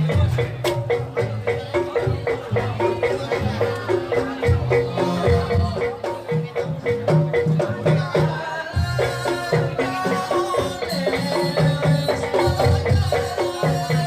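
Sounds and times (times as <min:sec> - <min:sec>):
drum beats: 0:00.0 - 0:14.0.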